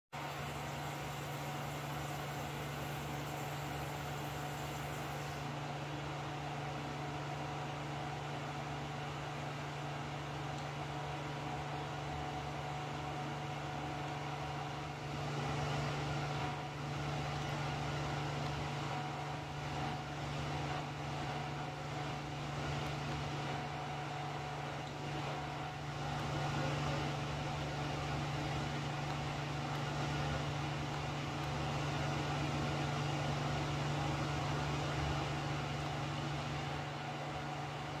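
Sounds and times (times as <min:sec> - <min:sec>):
steady mechanical hum: 0:00.1 - 0:38.0.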